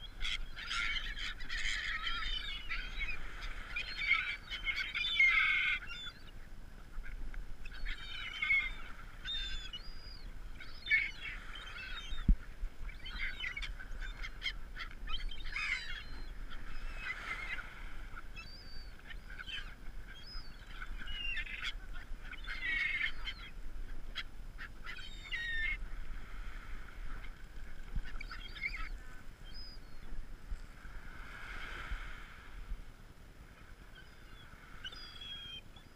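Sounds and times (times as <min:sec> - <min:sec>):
gulls calling: 0:00.0 - 0:30.2, 0:33.8 - 0:35.9.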